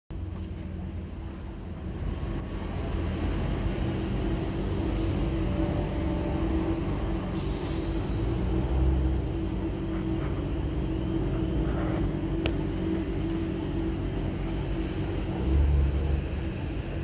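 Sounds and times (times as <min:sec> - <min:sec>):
construction machinery engine rumble: 0:00.1 - 0:17.0.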